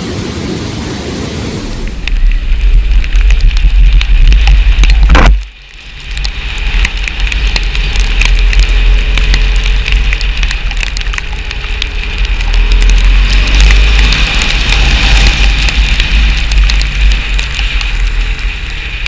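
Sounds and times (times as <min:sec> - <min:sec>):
wind buffeting microphone: 0:00.0 - 0:19.0
raindrops ticking: 0:01.8 - 0:19.0.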